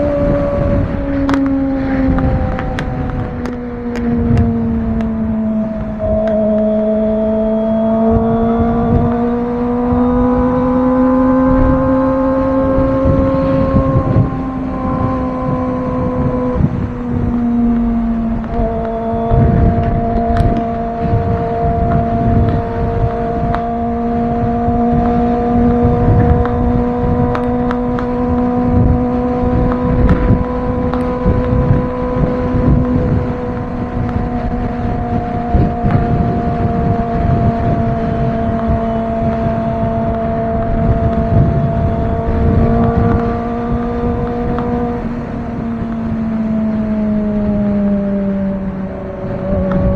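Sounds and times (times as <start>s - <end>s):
motorcycle engine revving high: 0.0s - 49.9s
wind rumble on microphone: 0.0s - 49.9s.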